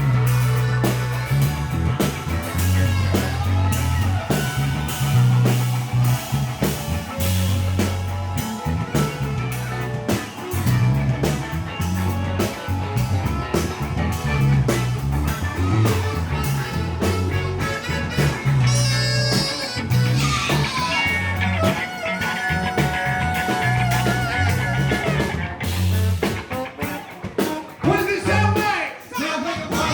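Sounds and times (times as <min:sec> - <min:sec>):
prominent bass line: 0:00.0 - 0:26.8
funk band playing: 0:00.0 - 0:29.9.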